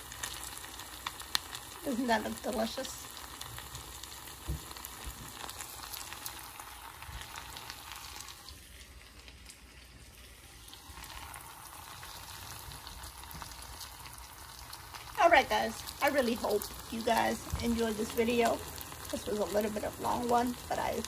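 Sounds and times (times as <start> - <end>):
food sizzling: 0.0 - 21.0.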